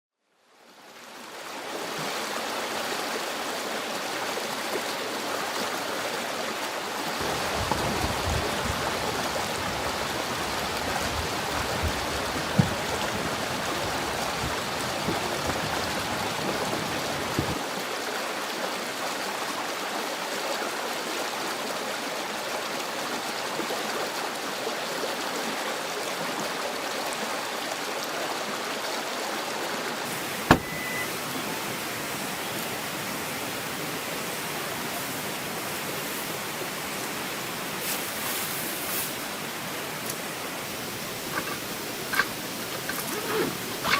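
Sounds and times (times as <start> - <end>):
stream running over rocks: 0.4 - 43.9.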